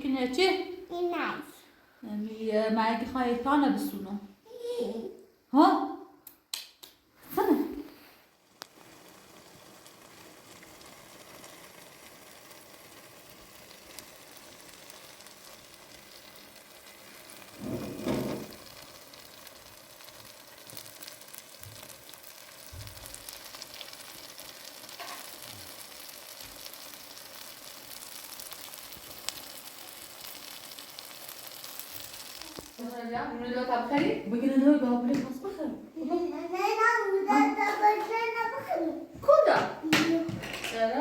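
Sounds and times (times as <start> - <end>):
food sizzling in a pan: 7.2 - 38.6, 39.5 - 41.0.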